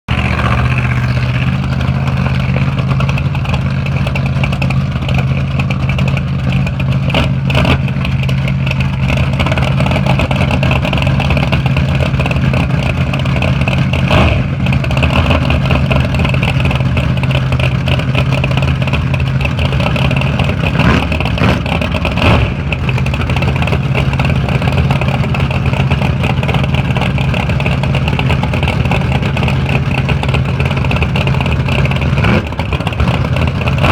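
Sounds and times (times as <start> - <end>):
race car engine idling: 0.1 - 33.9.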